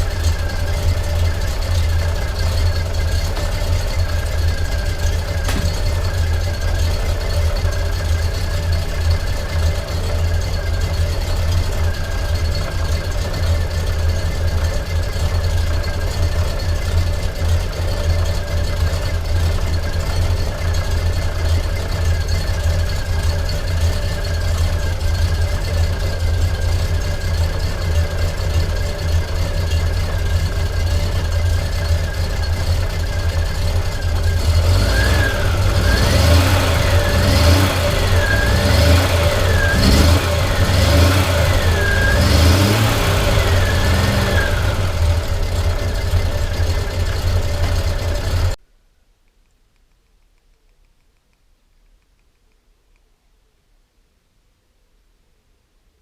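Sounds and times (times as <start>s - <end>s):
car engine idling and revving: 0.0s - 48.6s.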